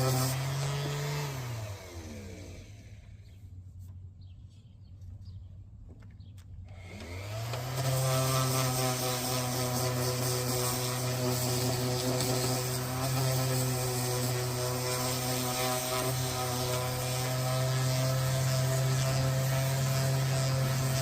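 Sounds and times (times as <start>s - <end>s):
power tool motor spinning: 0.0s - 3.2s, 6.7s - 21.0s.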